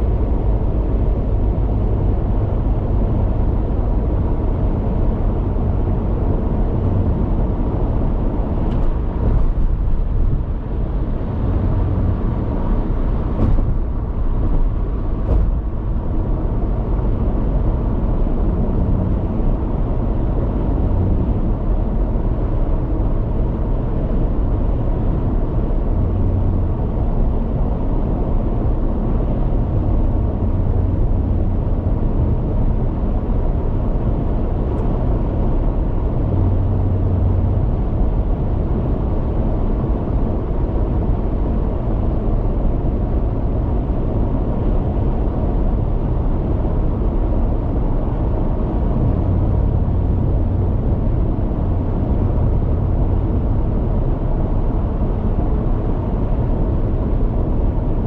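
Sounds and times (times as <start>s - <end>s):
tyre and wind noise in car: 0.0s - 58.0s.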